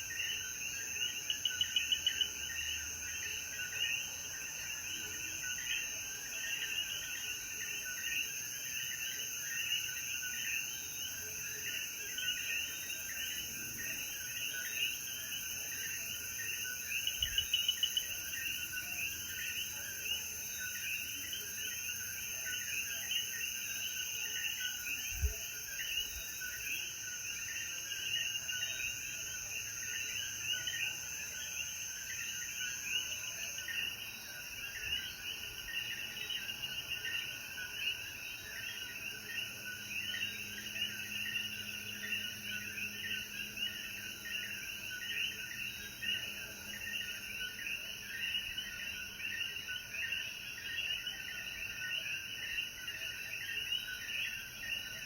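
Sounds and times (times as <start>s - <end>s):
high insect hum: 0.0s - 55.0s.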